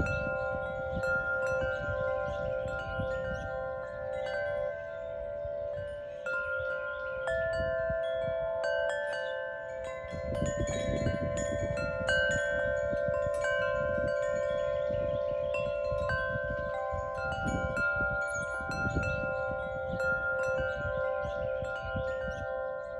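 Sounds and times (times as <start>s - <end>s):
wind chimes ringing: 0.0s - 22.9s.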